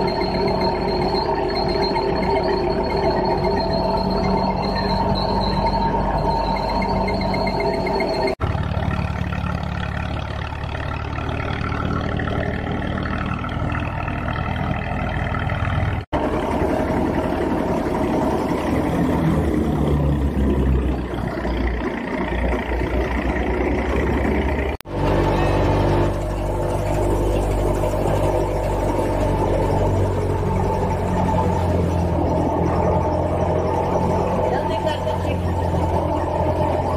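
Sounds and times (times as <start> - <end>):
tractor engine driving thresher: 0.0 - 36.9.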